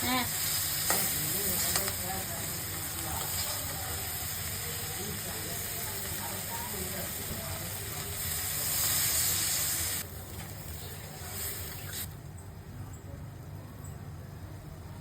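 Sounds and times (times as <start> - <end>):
fish curry sizzling in a pan: 0.0 - 12.1.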